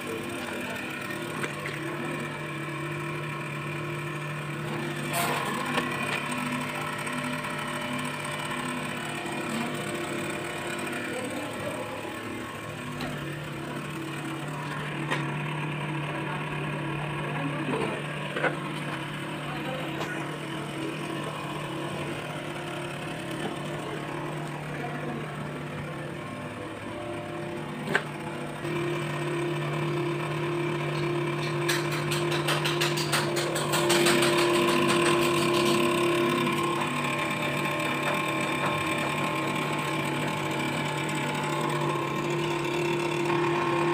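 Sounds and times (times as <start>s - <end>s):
hydraulic power pack humming: 0.0s - 43.9s.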